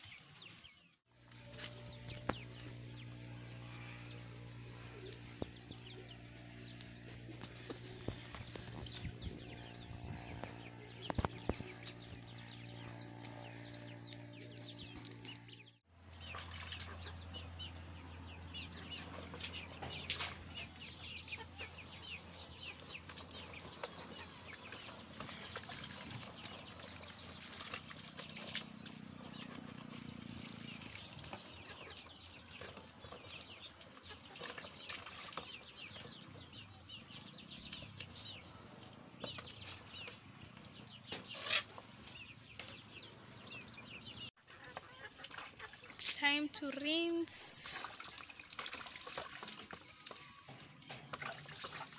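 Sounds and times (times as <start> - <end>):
chickens clucking: 1.3 - 46.2, 47.2 - 51.9.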